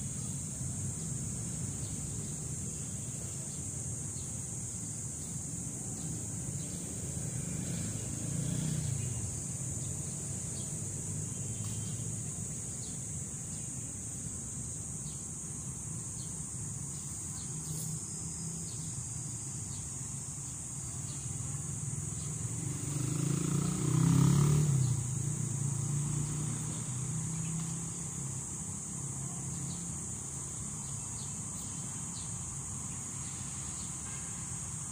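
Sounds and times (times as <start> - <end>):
high-pitched insect drone: 0.0 - 34.9
low traffic rumble: 0.0 - 34.9.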